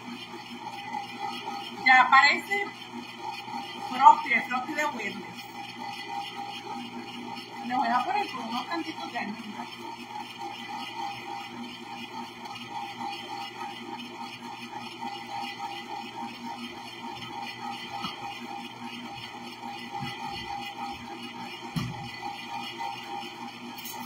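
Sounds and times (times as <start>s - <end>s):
ice cream maker motor running: 0.0s - 24.0s.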